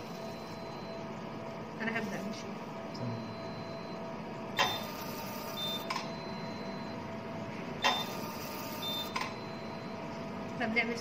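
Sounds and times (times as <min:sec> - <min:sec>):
faint machine tone: 0:00.0 - 0:01.9, 0:02.9 - 0:10.4.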